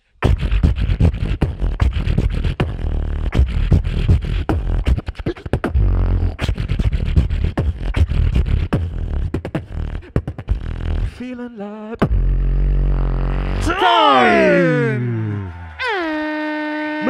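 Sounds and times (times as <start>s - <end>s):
beatboxing into a microphone: 0.0s - 17.0s.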